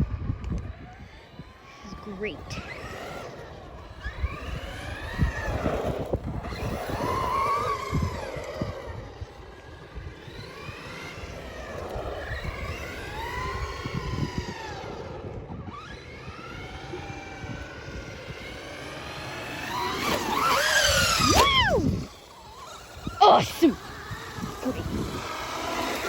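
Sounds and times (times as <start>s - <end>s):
toy car electric motor whining: 0.0s - 26.0s.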